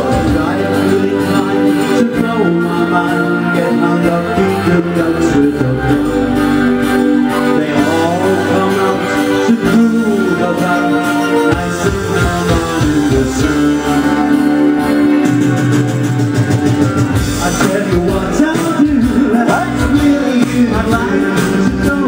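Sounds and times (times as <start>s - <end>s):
man singing into microphone: 0.0s - 15.2s, 17.3s - 22.0s
electric guitars playing: 0.0s - 22.0s.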